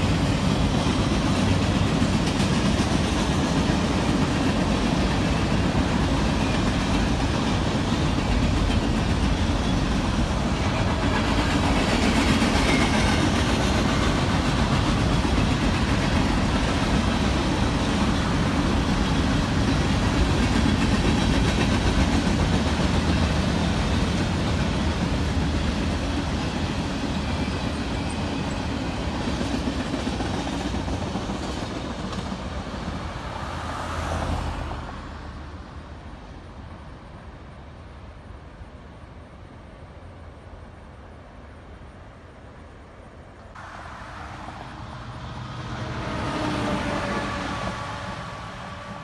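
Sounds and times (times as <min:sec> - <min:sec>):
freight train wheels on rail: 0:00.0 - 0:49.0.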